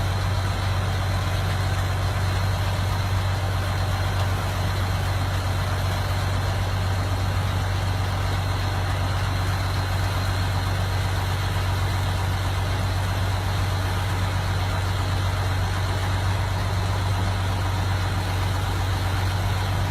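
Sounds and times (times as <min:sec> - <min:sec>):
engine humming steadily: 0:00.0 - 0:19.9.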